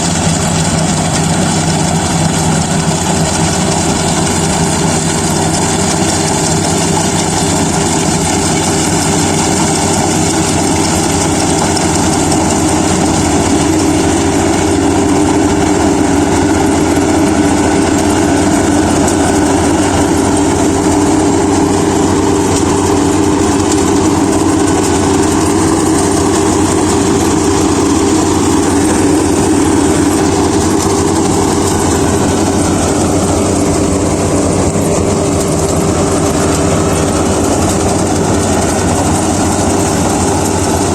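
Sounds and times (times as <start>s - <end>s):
combine harvester engine hum: 0.0s - 40.9s
high machine whine: 0.0s - 40.9s.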